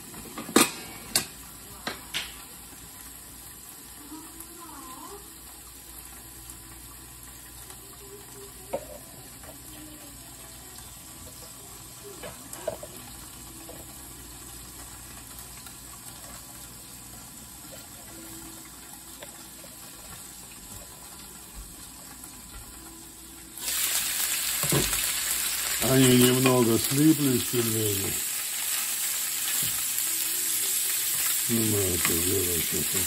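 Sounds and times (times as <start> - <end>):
dumplings sizzling in a pan: 0.0 - 33.0.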